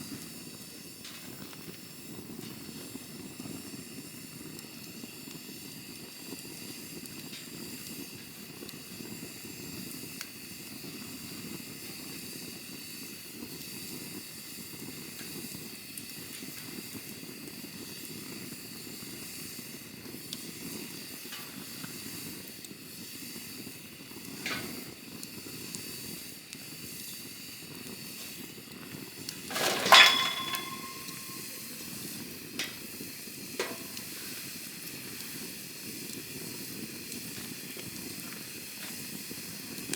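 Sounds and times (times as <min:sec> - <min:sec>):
campfire hissing: 0:00.0 - 0:39.9
fire crackling pops: 0:00.0 - 0:39.9.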